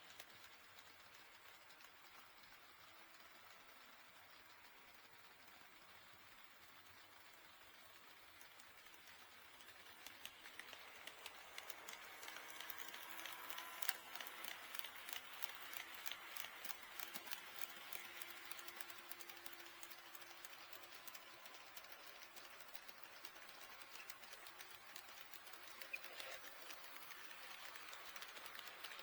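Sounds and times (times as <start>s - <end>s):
model train wheels clicking on rails: 0.0s - 29.0s.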